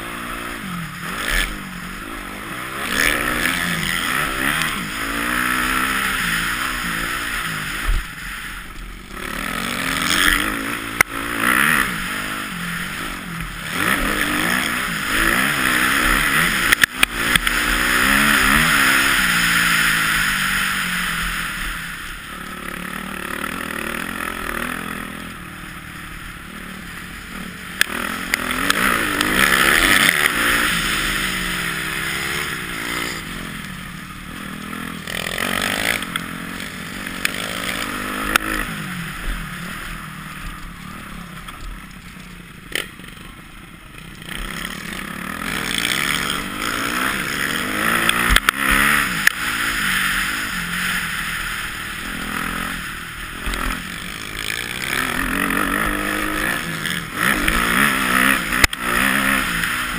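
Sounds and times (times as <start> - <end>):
dirt bike engine revving: 0.0 - 41.9, 42.6 - 59.9.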